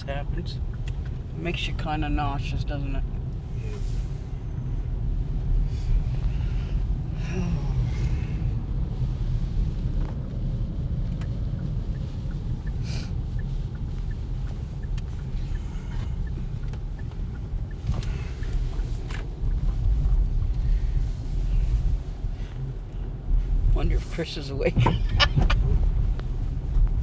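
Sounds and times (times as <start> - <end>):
car driving from inside cabin: 0.0 - 27.0.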